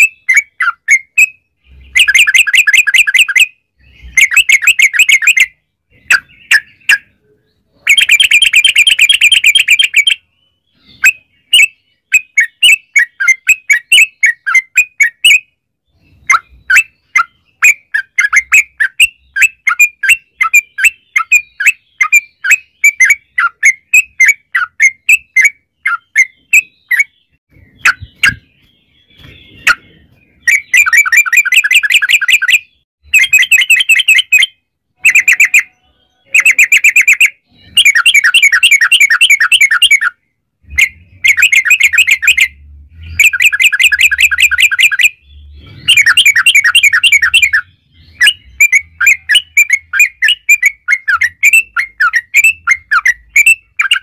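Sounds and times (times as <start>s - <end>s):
bulbul singing chirping runs: 0.0s - 54.0s.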